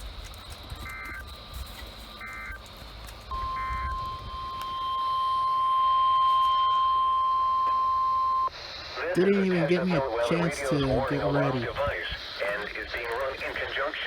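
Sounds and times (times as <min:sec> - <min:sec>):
steady warning alarm tone: 0:00.0 - 0:12.5
harsh data bursts: 0:00.0 - 0:14.0.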